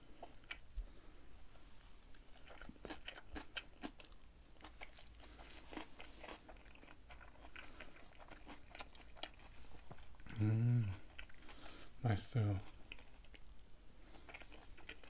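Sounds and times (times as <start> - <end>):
person chewing crunchy food: 0.0 - 1.2, 2.0 - 15.0.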